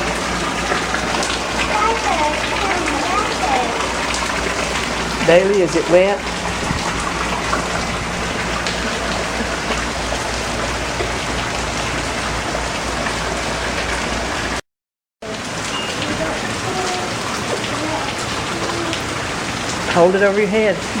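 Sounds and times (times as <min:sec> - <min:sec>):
steady rain falling: 0:00.0 - 0:14.6, 0:15.2 - 0:21.0.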